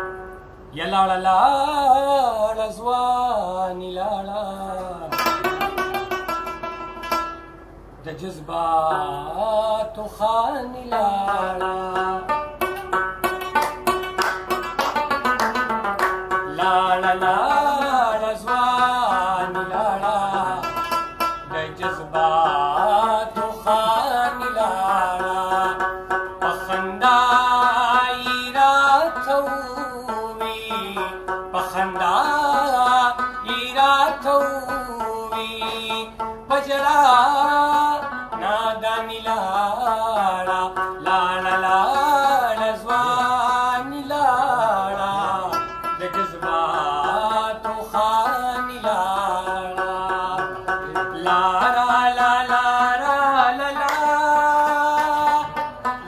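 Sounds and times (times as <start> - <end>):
plucked lute melody: 0.0 - 0.5, 4.8 - 7.7, 8.9 - 56.0
man singing: 0.7 - 5.8, 8.0 - 12.6, 16.3 - 56.0.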